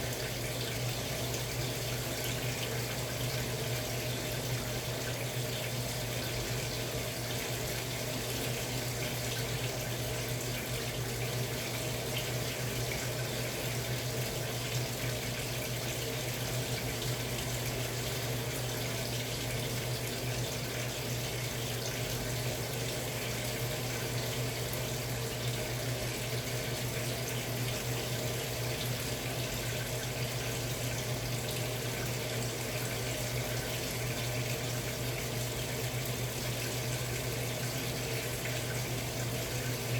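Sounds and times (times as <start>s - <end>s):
washing machine hum: 0.0s - 39.9s
washing machine water rushing: 0.0s - 39.9s.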